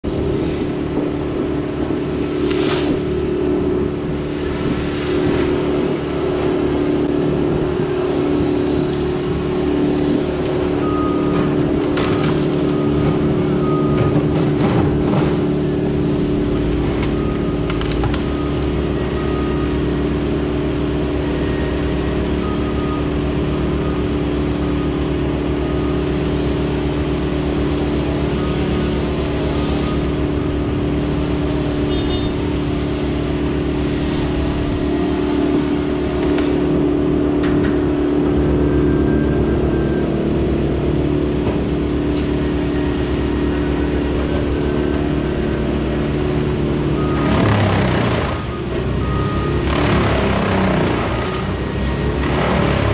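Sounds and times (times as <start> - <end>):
engine humming steadily: 0.0 - 52.9.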